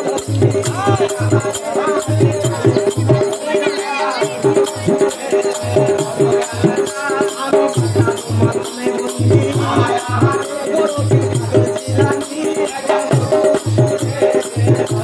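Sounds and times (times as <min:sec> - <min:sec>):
hand drum rhythm: 0:00.0 - 0:15.0.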